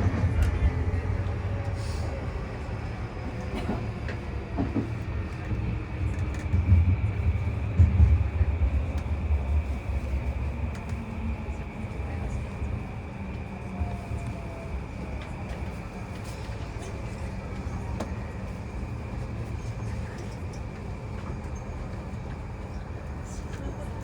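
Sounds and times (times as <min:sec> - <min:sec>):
train wheels and motors rumbling: 0:00.0 - 0:24.0.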